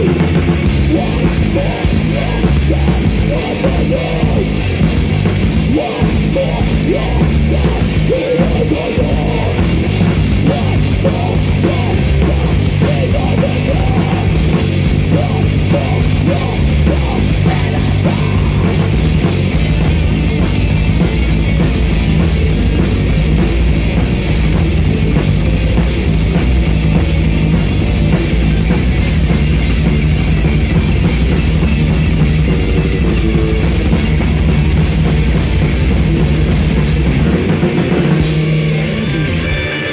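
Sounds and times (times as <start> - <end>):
drum kit: 0.0 - 39.9
heavy metal band playing: 0.0 - 39.9.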